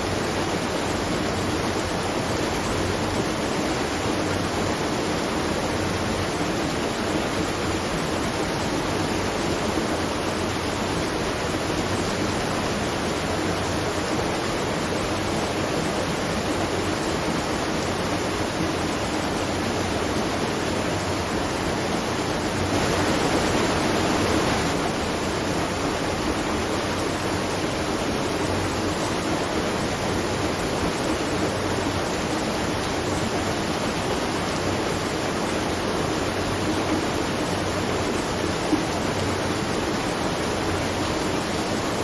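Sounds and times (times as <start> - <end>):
water falling and splashing: 0.0 - 42.0.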